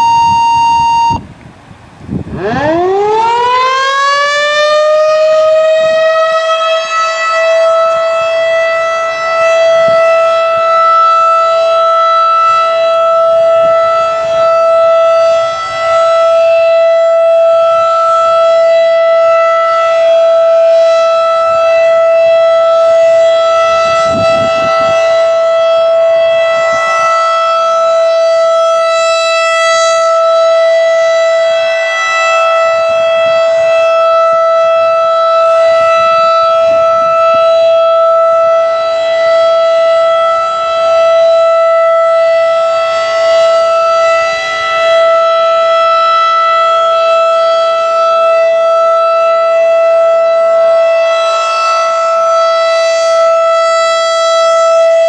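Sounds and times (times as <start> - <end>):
warning siren steady tone: 0.0 - 55.0.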